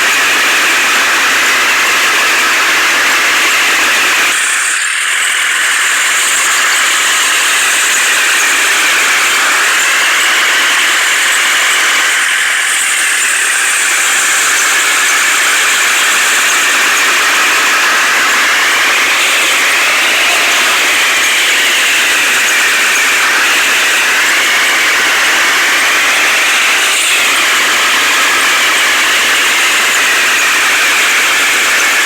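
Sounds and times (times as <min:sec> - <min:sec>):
heavy machinery engine running: 0:04.4 - 0:32.0.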